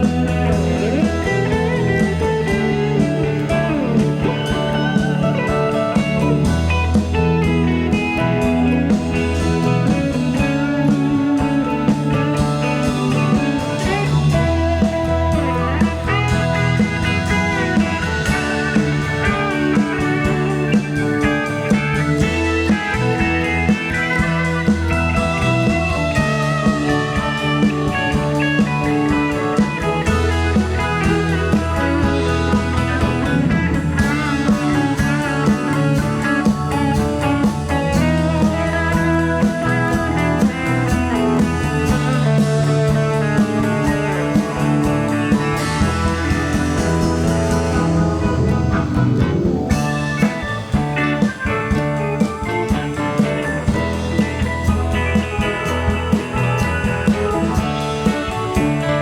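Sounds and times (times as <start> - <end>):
bass line: 0.0 - 59.0
drum kit beats: 0.0 - 59.0
electric guitar: 0.0 - 59.0.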